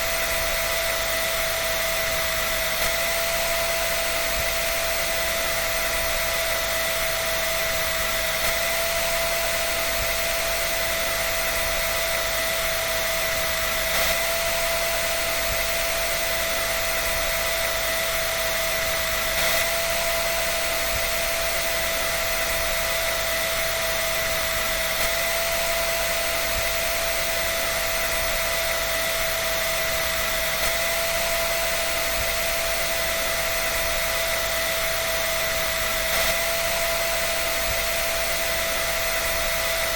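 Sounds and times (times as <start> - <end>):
dryer running: 0.0 - 39.9.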